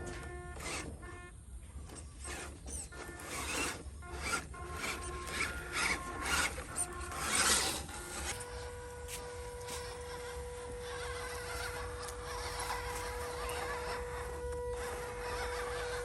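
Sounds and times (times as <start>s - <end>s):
steady hum: 0.0s - 16.0s
toy truck tyres grinding over rocks: 0.0s - 16.0s.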